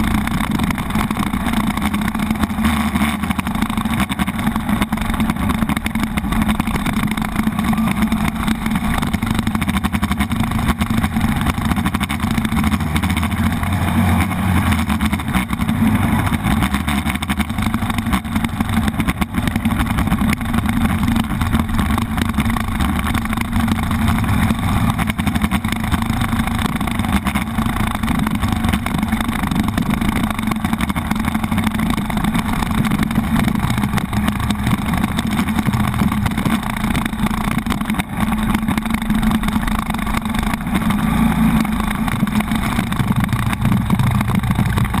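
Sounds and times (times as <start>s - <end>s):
motorcycle engine running: 0.0s - 45.0s
road noise: 0.0s - 45.0s.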